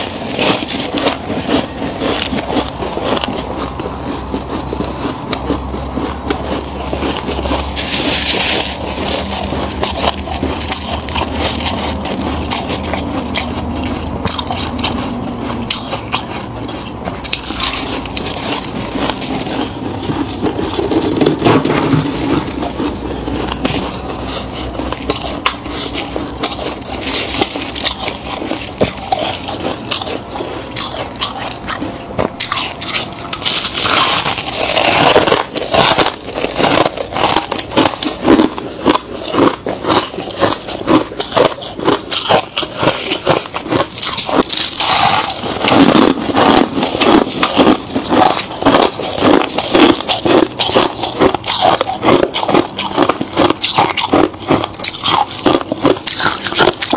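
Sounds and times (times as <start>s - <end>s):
frost crunching and crackling: 0.0s - 56.9s.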